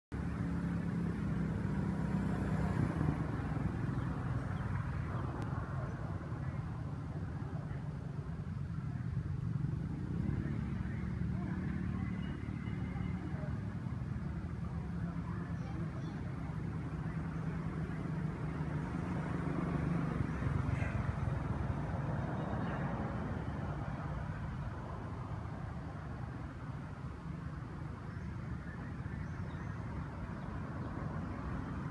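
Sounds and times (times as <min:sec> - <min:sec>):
engine hum: 0:00.1 - 0:31.9
vehicle engine rumbling: 0:00.1 - 0:31.9.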